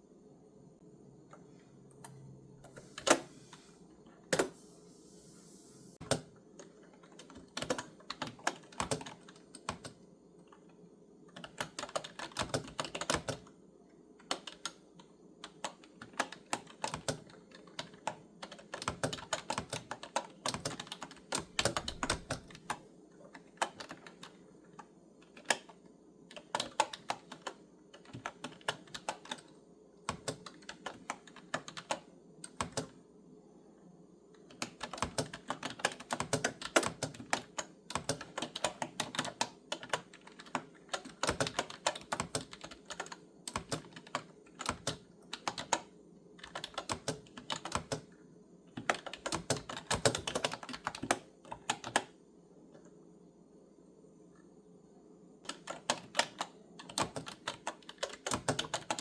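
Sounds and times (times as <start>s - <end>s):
typing on clicky keyboard: 6.0s - 13.5s, 14.2s - 33.0s, 34.4s - 52.2s, 55.5s - 59.0s.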